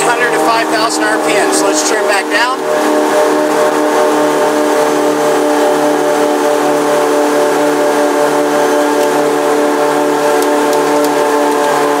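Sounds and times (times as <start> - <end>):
boat engines running at high speed: 0.0 - 12.0.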